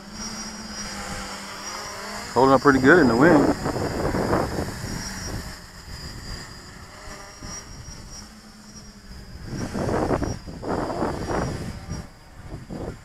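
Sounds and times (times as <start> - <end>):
distant drone motors whining: 0.0 - 13.0
wind buffeting microphone: 0.8 - 13.0.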